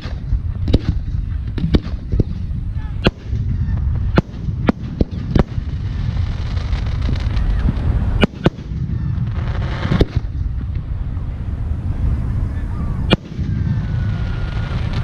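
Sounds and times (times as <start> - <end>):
fireworks bursting: 0.0 - 11.0, 12.0 - 15.0
low rumble: 0.0 - 15.0.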